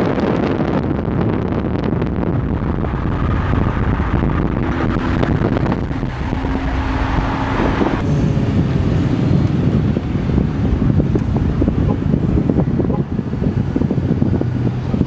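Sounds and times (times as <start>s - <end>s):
car engines running: 0.0s - 15.0s
wind noise on microphone: 0.0s - 15.0s.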